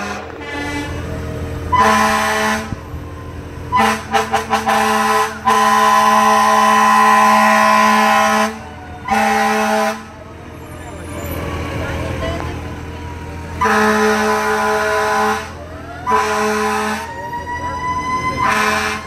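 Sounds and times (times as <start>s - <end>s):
fire truck air horn: 0.0s - 3.0s, 3.7s - 10.8s, 13.5s - 19.0s
deep engine rumble: 0.0s - 19.0s.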